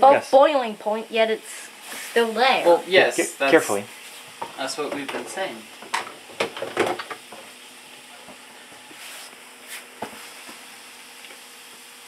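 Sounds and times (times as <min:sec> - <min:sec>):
water sizzling on hot griddle: 0:00.0 - 0:12.0.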